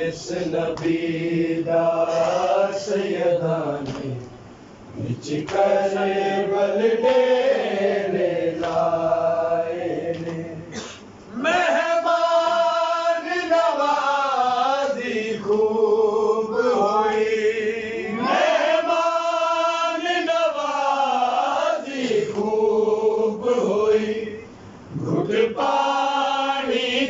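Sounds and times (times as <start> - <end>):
men chanting a lament: 0.0 - 4.3, 4.9 - 27.0.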